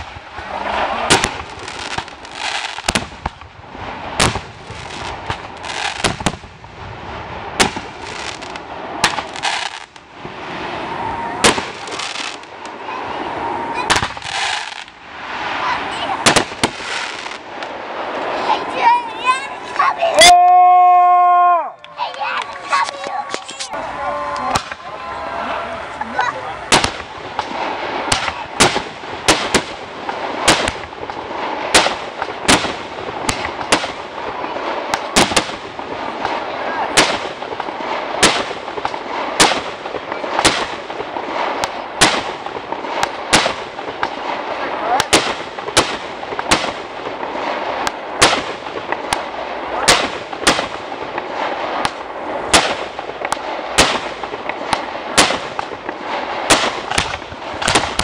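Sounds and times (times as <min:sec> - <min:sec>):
fireworks banging: 0:00.0 - 0:21.2, 0:21.8 - 0:58.0.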